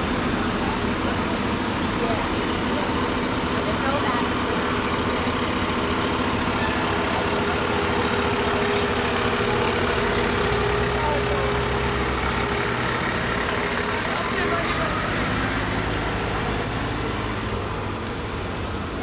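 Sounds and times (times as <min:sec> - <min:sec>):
diesel truck engine driving past: 0:00.0 - 0:19.0.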